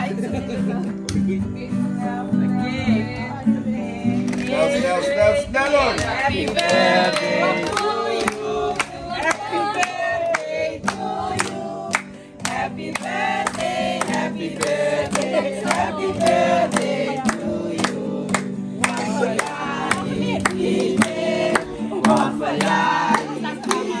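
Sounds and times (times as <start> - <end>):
hand-clapping in rhythm: 0.7 - 1.4, 4.2 - 24.0
group of people singing: 2.1 - 24.0.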